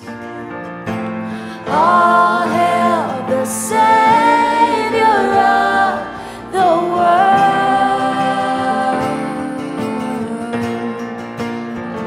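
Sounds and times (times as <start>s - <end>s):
women singing worship music: 1.4s - 11.2s.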